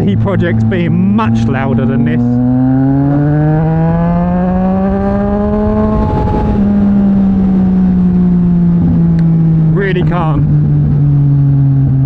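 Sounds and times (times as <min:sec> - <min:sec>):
motorcycle engine running: 0:00.0 - 0:12.0
wind rumble on microphone: 0:02.2 - 0:12.0.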